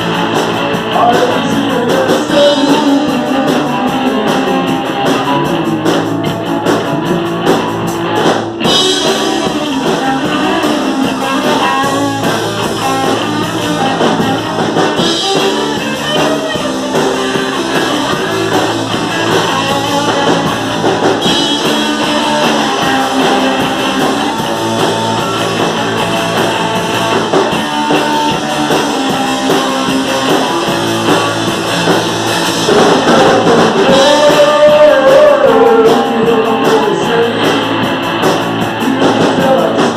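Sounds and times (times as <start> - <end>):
drum kit: 0.0 - 39.9
electric guitar: 0.0 - 39.9
rock band playing live: 0.0 - 39.9.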